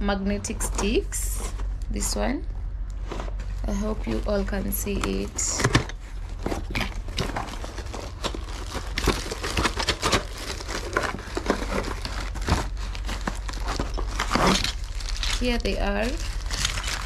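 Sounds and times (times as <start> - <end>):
plastic packaging crinkling: 3.1 - 17.0.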